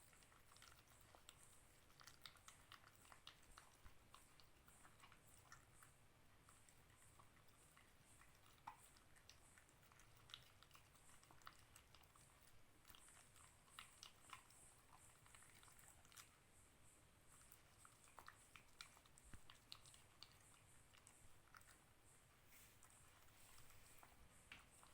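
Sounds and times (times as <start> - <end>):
puppy chewing dry food: 0.0 - 24.9.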